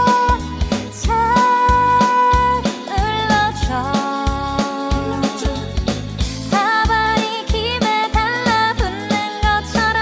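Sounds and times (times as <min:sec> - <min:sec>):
person singing: 0:00.0 - 0:10.0
upbeat pop song: 0:00.0 - 0:10.0.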